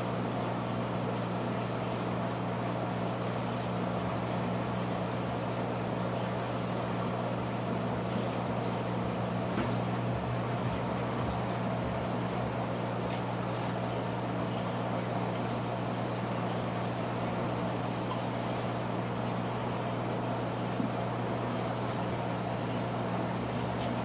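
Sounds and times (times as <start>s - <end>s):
aquarium pump humming: 0.0s - 24.0s.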